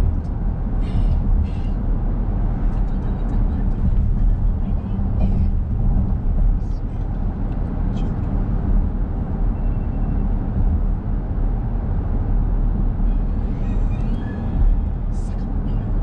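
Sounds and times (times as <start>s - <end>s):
car driving rumble: 0.0s - 16.0s.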